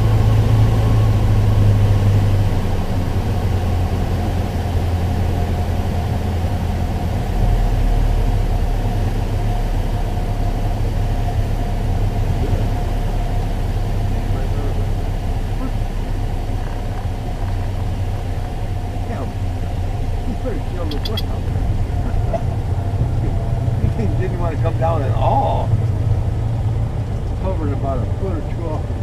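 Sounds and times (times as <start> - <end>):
light aircraft engine running: 0.0 - 29.0.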